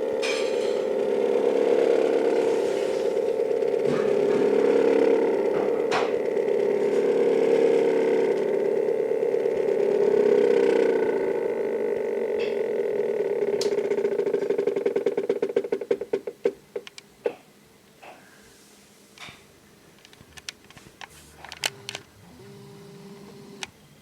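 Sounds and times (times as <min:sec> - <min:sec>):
stepper motor whine and ticking: 0:00.0 - 0:17.1, 0:20.0 - 0:24.0.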